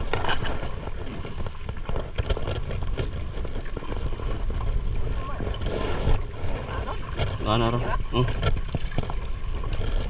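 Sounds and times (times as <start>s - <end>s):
water sloshing against boat hull: 0.0s - 10.0s.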